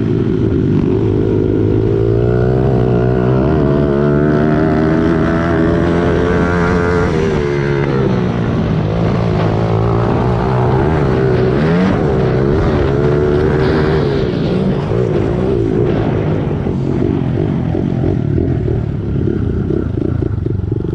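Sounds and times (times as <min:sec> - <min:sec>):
pit bike engine running: 0:00.0 - 0:20.9.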